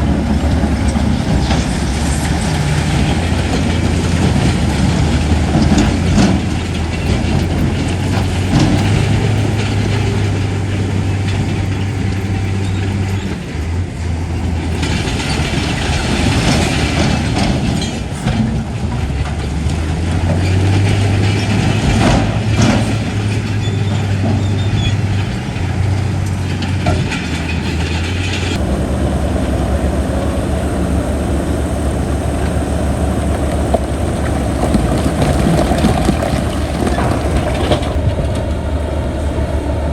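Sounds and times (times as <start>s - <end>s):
bulldozer diesel engine under load: 0.0s - 39.9s
clanks and knocks of tracks: 0.0s - 39.9s.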